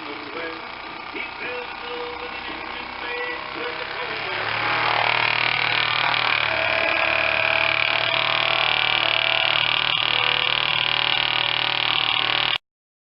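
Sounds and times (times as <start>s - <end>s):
toy steam engine running: 0.0s - 12.6s.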